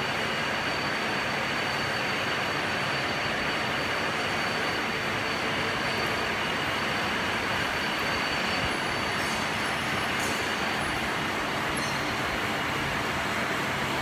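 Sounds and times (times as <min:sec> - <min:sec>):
high machine whine: 0:00.0 - 0:14.0.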